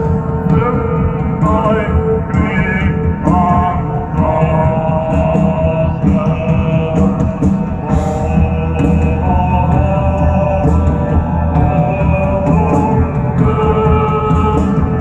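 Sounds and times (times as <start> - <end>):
live rock band through a pa: 0.0 - 15.0
steady drum beat: 0.0 - 15.0.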